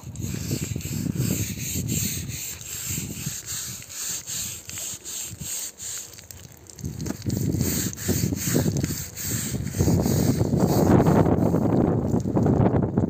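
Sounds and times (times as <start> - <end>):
scrub brush scrubbing wet carpet: 0.0 - 11.7.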